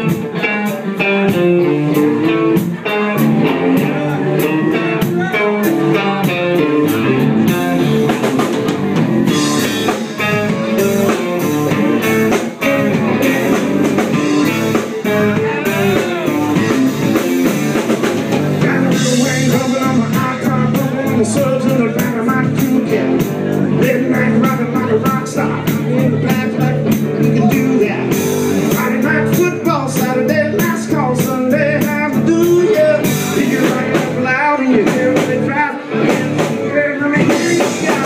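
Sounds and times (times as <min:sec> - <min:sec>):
drum kit beat: 0:00.0 - 0:38.0
guitar: 0:00.0 - 0:38.0.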